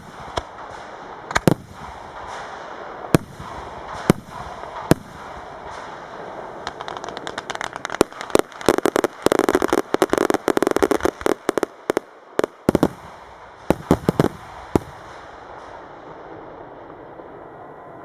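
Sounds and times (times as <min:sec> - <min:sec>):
fireworks bangs and crackling: 0:00.0 - 0:17.4.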